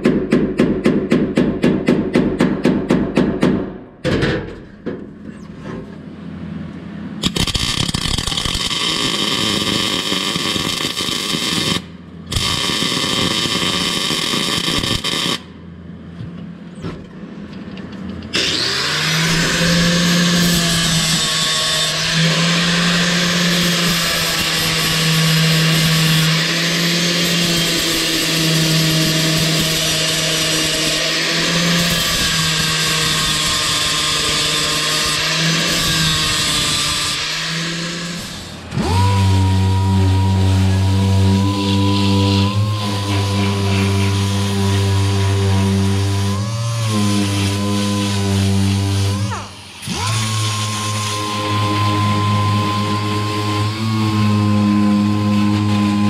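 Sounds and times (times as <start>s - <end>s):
angle grinder whining on steel: 7.2s - 15.4s, 18.3s - 56.0s.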